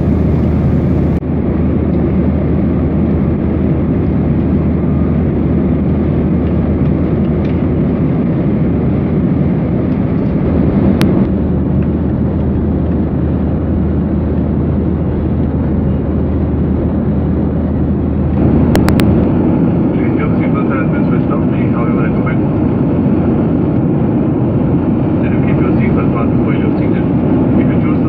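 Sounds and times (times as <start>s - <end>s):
aircraft cabin engine noise: 0.0s - 28.0s.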